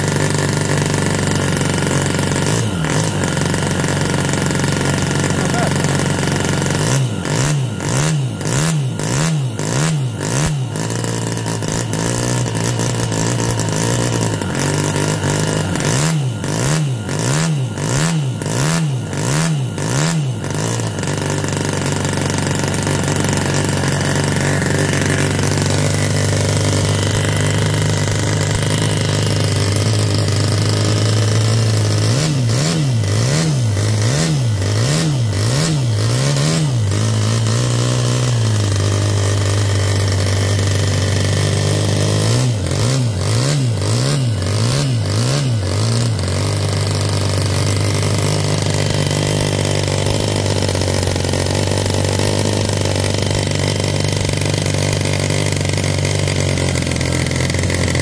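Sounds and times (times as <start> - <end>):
model engine revving raspy: 0.0 - 58.0.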